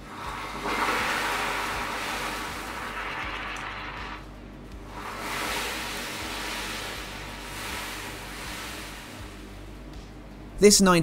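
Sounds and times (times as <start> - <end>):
pearls stirred into water hissing: 0.0 - 4.3, 4.9 - 9.4.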